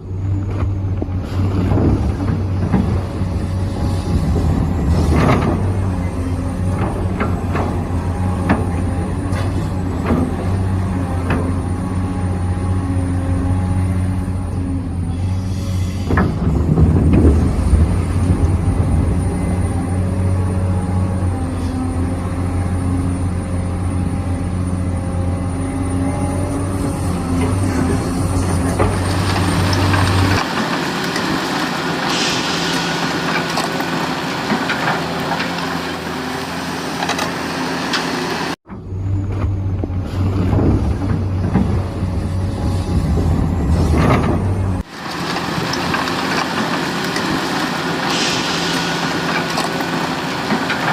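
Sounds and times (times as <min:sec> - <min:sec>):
excavator hydraulic hum and whine: 0:00.0 - 0:50.9.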